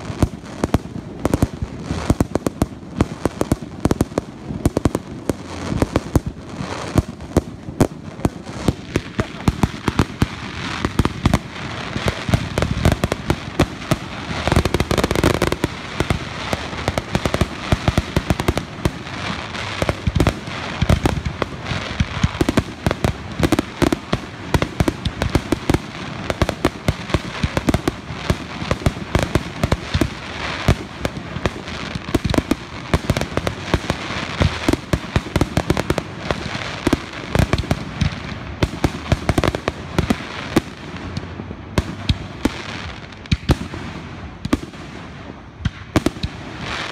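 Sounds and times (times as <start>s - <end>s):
fireworks bangs: 0.0s - 46.9s.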